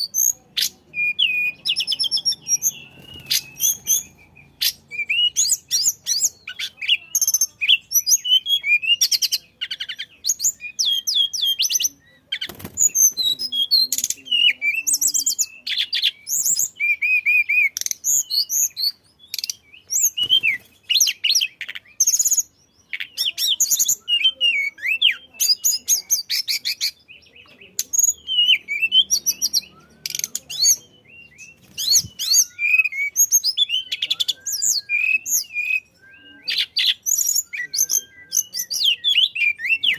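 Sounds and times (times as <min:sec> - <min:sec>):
songbird singing rapid chirps: 0:00.0 - 0:39.9.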